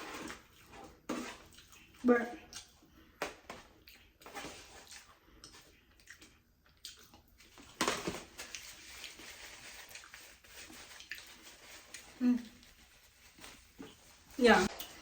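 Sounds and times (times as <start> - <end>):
faint eating mouth sounds: 0.0 - 7.8, 8.5 - 15.0.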